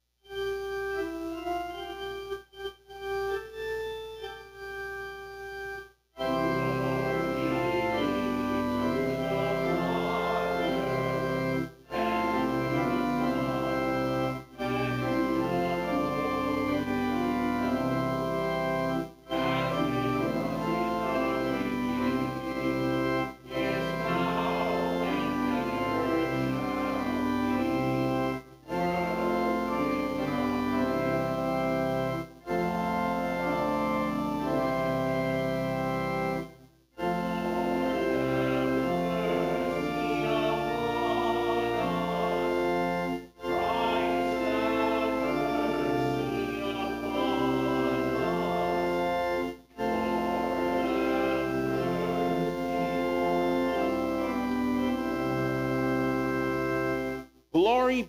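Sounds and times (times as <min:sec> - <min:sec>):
church organ playing chords: 0:00.2 - 0:58.0.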